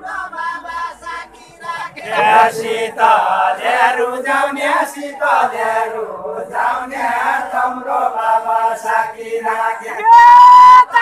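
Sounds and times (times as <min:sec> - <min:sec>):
men singing in unison: 0:00.0 - 0:10.2.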